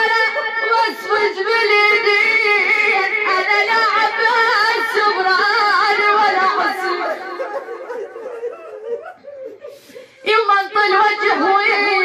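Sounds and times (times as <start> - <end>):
woman chanting a lament: 0.0 - 12.0.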